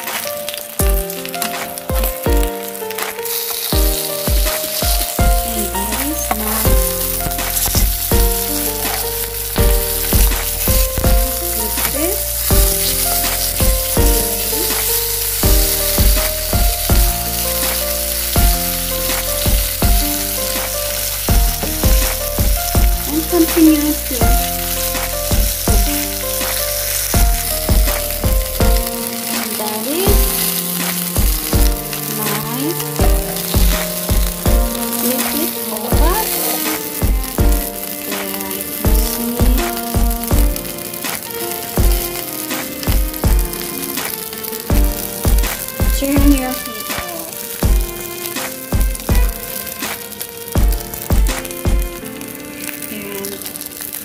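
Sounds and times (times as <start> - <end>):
background music with beat: 0.0 - 52.3
fish sizzling in skillet: 0.0 - 54.0.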